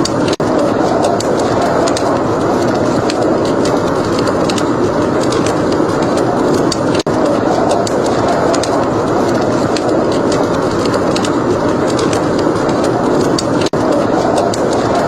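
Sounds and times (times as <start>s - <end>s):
fire crackling and popping: 0.0s - 15.0s
steady rushing noise: 0.0s - 15.0s.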